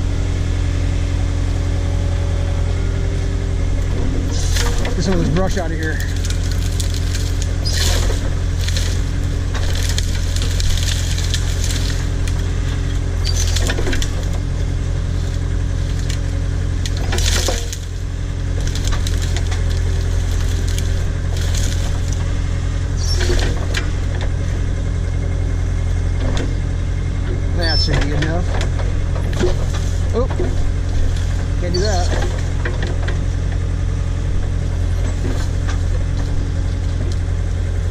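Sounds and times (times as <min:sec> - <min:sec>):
backhoe engine running: 0:00.0 - 0:37.9
cracks and crunches of brush: 0:03.8 - 0:24.9, 0:27.3 - 0:37.9.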